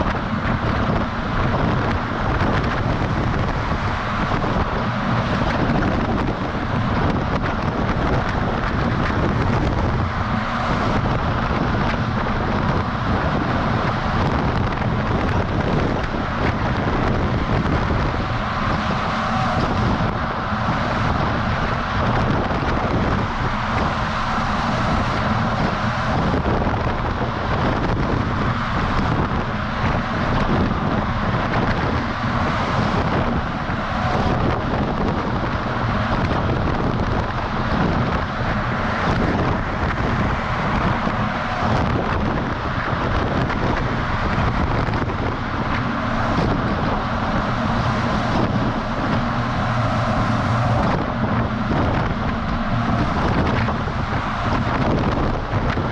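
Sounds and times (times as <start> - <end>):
truck driving on road: 0.0 - 55.9
wind rushing over camera: 0.0 - 55.9.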